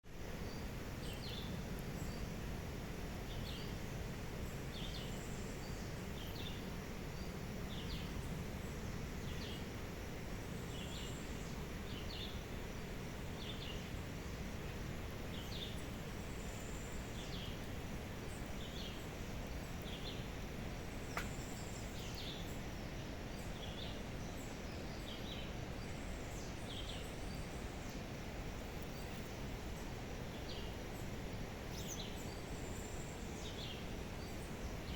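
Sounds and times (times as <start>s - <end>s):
low background noise: 0.1s - 34.9s.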